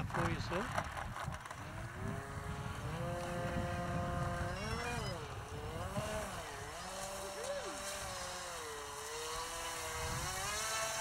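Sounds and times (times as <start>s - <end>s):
wind rumble on microphone: 0.0s - 7.3s, 9.2s - 11.0s
model aircraft motor revving: 0.0s - 11.0s.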